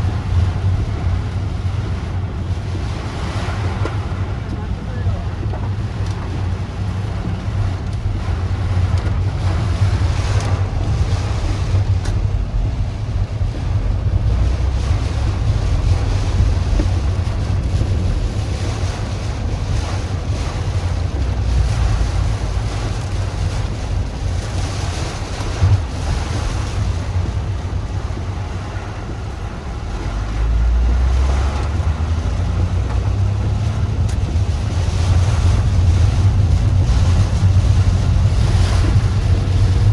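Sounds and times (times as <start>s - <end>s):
wind and rain hiss: 0.0s - 39.9s
wind buffeting microphone: 0.0s - 39.9s.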